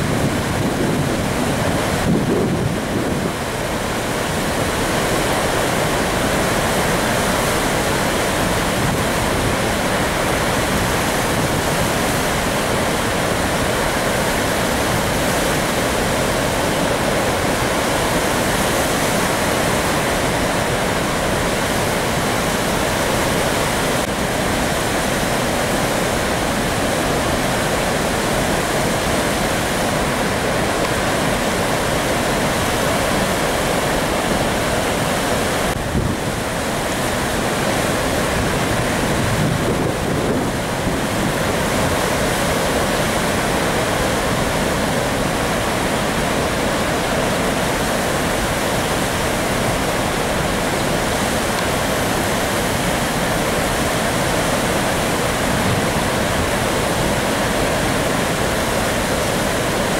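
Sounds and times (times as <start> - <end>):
floodwater roaring through spillway: 0.0 - 59.9.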